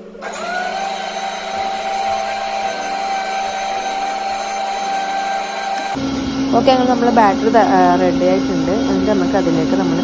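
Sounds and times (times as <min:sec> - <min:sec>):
small electric motor whine: 0:00.0 - 0:10.0.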